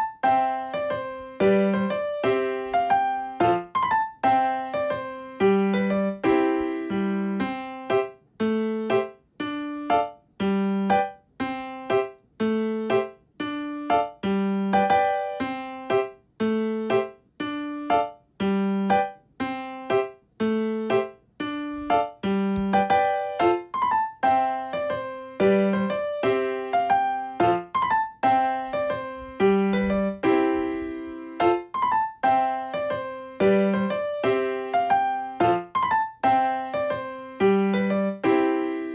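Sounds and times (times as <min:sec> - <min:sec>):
piano keyboard tune: 0:00.0 - 0:38.9.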